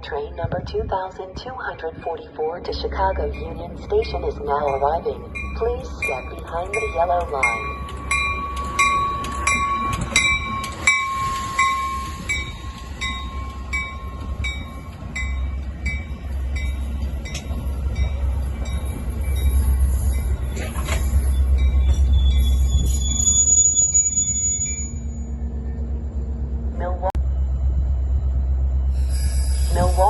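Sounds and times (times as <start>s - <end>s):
train locomotive rumbling: 0.0s - 30.0s
crossing warning bell dinging: 0.5s - 26.7s.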